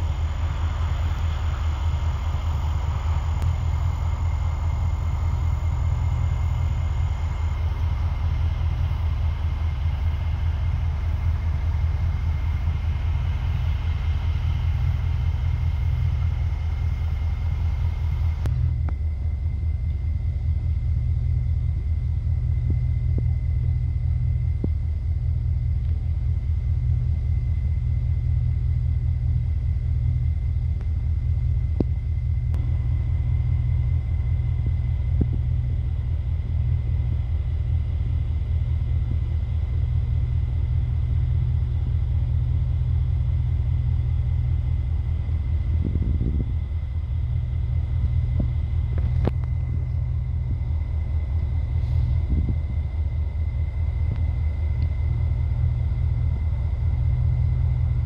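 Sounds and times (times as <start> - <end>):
low engine rumble: 0.0 - 58.0
thin high whine: 0.0 - 58.0.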